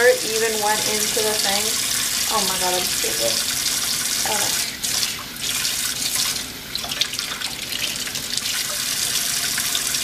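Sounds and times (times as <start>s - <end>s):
faucet running into sink: 0.0s - 10.0s.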